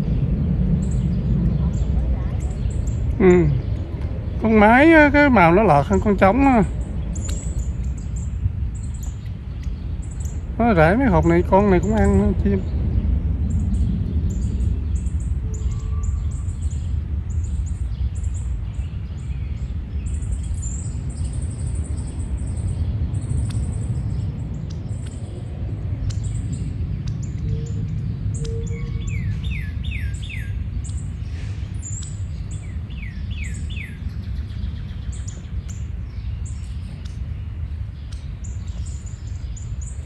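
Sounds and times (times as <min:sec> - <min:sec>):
songbirds chirping: 0:00.0 - 0:40.0
steady low rumble: 0:00.0 - 0:40.0.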